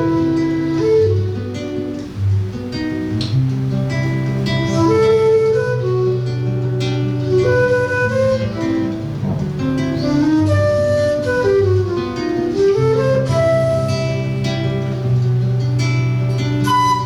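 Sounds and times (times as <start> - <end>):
flute melody: 0.0 - 2.3, 4.1 - 17.0
acoustic guitar chords: 0.0 - 17.0.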